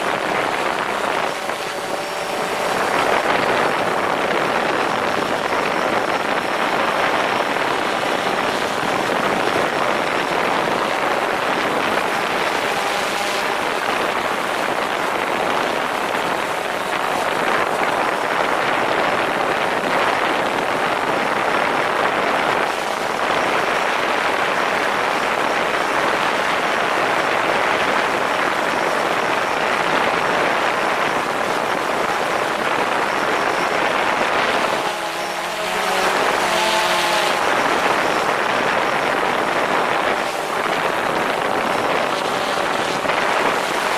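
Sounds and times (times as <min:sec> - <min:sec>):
propeller wash and wind: 0:00.0 - 0:43.9.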